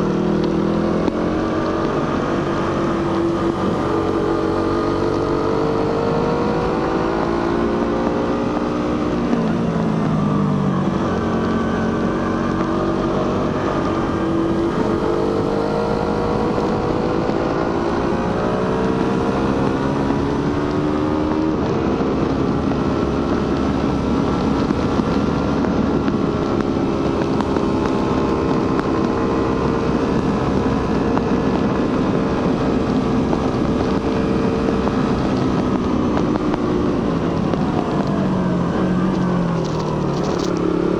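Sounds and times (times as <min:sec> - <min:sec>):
motorcycle engine under way: 0:00.0 - 0:40.9
wind rushing over microphone: 0:00.0 - 0:40.9.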